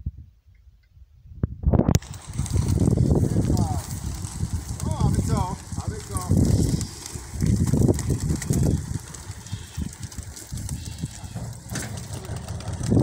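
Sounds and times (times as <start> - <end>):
pigeons flapping wings: 2.0 - 13.0.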